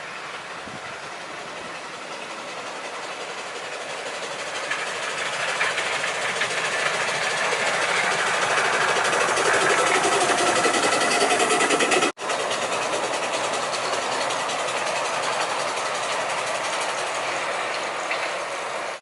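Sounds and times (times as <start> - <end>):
miniature train wheels clattering: 0.6 - 19.0.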